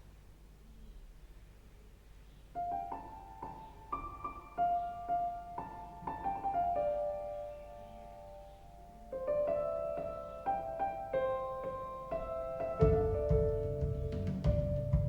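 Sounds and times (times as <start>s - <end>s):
piano notes over loudspeakers: 2.6s - 15.0s.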